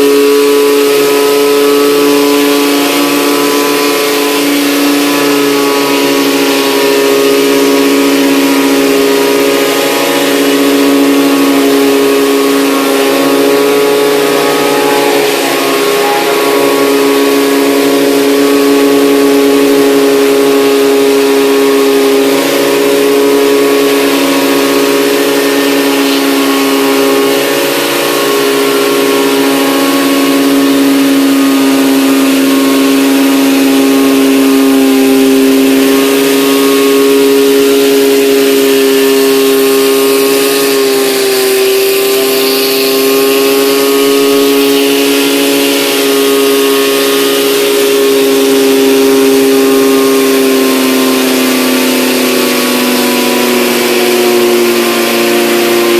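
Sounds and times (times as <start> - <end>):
pressure washer pump drone: 0.0 - 55.9
water spraying on deck boards: 0.2 - 55.9.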